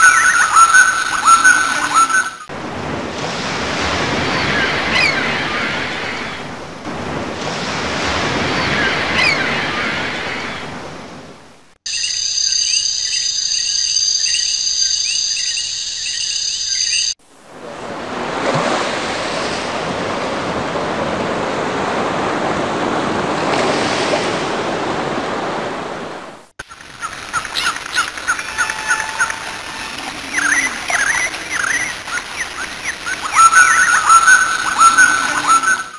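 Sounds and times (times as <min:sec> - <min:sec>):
surf washing: 0:01.1 - 0:11.8, 0:17.2 - 0:35.9.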